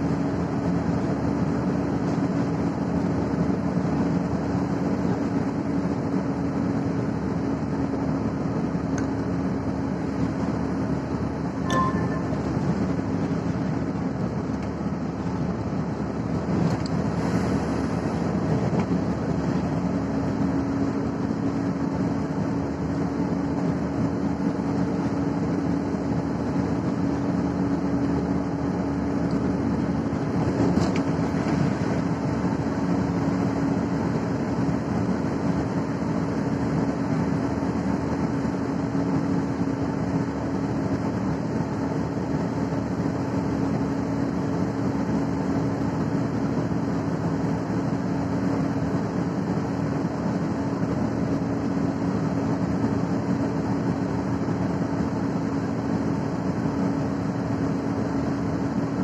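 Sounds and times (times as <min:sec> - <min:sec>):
vehicle engine and tyre noise: 0:00.0 - 0:59.0.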